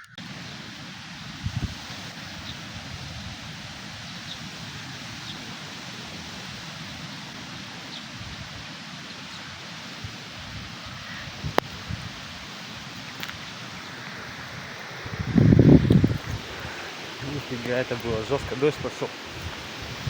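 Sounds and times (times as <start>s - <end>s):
wind rushing through trees: 0.0s - 20.0s.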